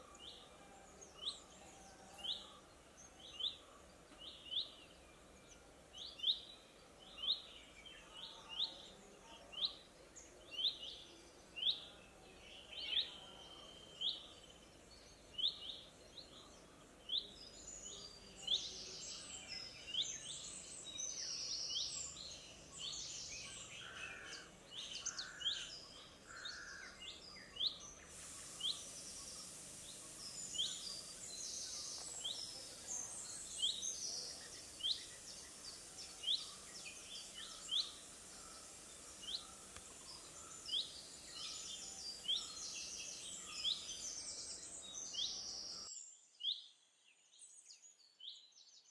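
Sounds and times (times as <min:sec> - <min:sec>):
birds chirping: 0:00.0 - 0:45.9
steady high hiss: 0:00.0 - 0:45.9.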